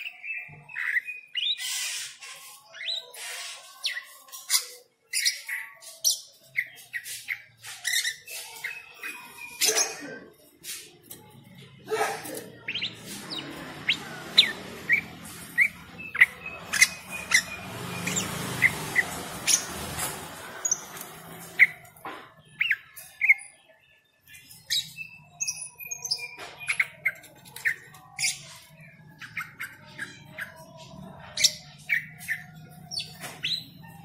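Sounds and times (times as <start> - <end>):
starling chirping: 0.0 - 34.0.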